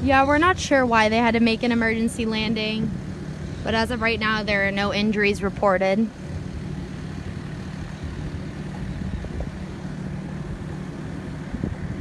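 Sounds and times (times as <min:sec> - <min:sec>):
outdoor background noise: 0:00.0 - 0:12.0
vehicle engine idling: 0:00.0 - 0:12.0.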